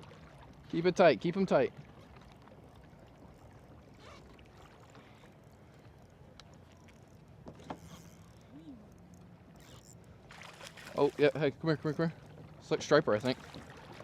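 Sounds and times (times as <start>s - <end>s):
kayak on water: 0.0s - 14.0s.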